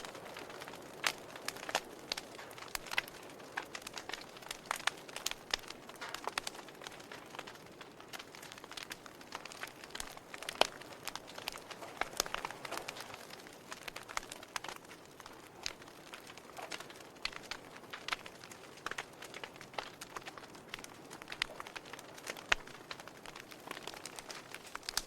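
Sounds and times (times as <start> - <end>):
soft fire hiss: 0.0 - 25.0
wood fire crackling and popping: 0.0 - 25.0.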